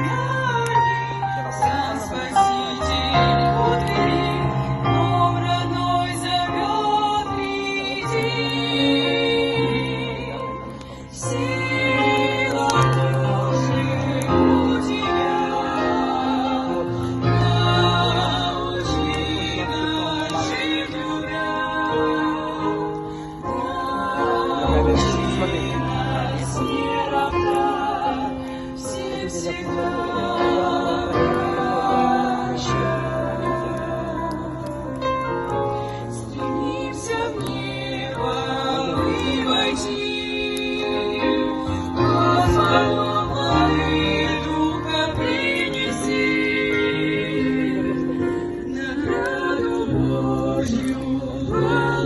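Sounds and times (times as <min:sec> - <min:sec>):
group singing worship song: 0:00.0 - 0:52.0.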